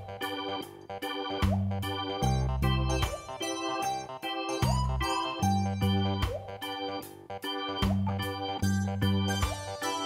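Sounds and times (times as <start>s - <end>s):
organ-like keyboard chords: 0.0s - 10.0s.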